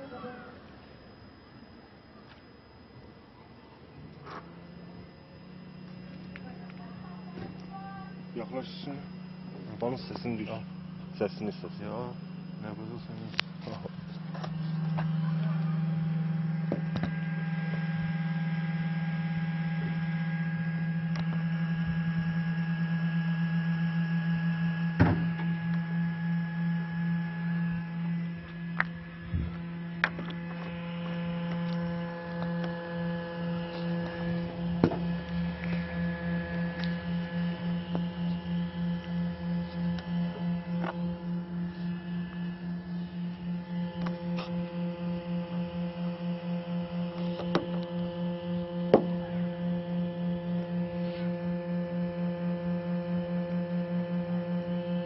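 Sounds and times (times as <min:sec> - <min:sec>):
cooling fan humming: 0:00.0 - 0:55.0.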